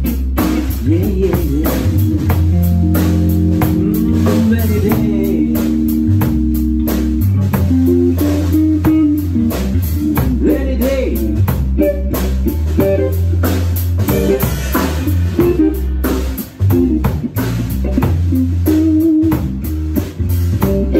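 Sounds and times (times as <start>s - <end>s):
drum kit: 0.0s - 20.9s
electric bass: 0.0s - 20.9s
electric lead guitar bending notes: 0.0s - 20.9s.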